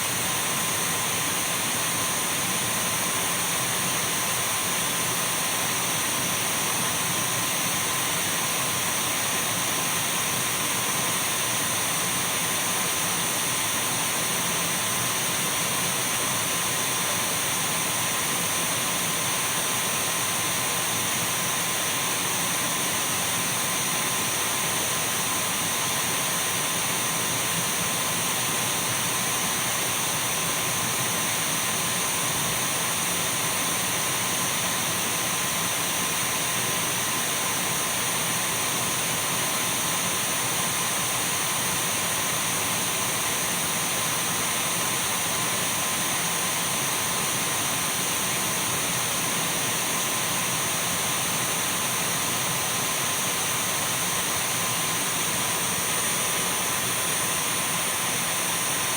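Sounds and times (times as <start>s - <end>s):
cordless vacuum running: 0.0s - 58.9s.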